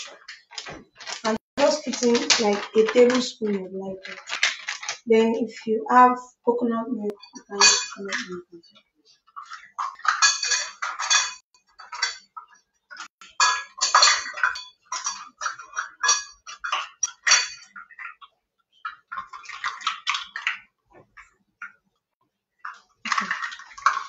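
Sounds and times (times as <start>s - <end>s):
utensils and dishes clattering: 0.0s - 5.1s, 7.0s - 21.3s, 22.6s - 24.0s.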